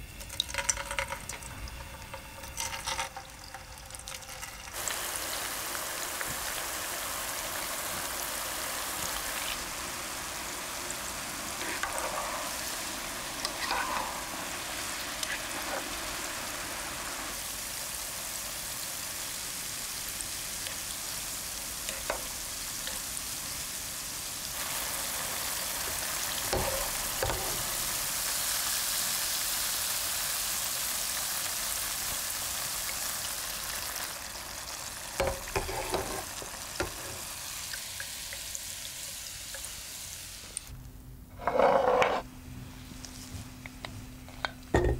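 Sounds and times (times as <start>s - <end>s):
deep-frying oil sizzling: 0.0s - 40.8s.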